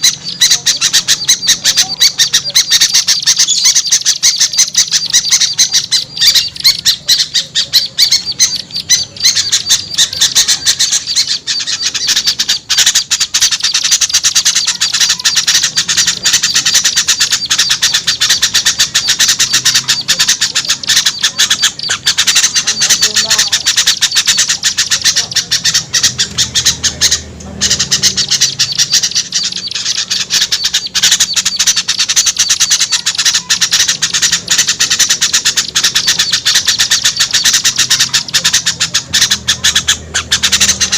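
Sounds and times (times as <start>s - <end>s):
small songbirds chattering: 0.0s - 40.9s.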